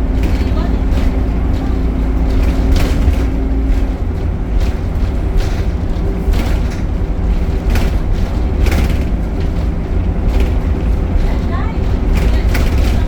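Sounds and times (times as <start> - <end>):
bus diesel engine rumble: 0.0 - 13.0
short rattles or knocks: 0.0 - 13.0.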